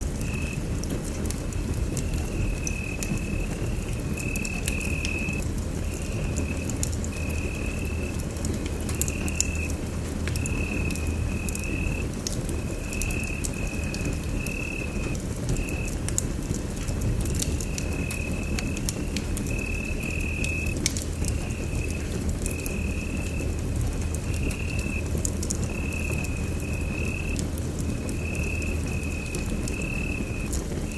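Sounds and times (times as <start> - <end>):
low rumble of flames: 0.0 - 30.9
wood fire crackling and popping: 0.0 - 30.9.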